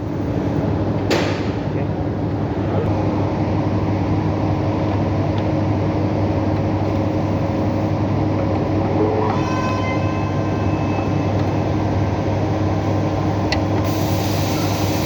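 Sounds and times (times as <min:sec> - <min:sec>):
low mechanical drone: 0:01.7 - 0:15.0.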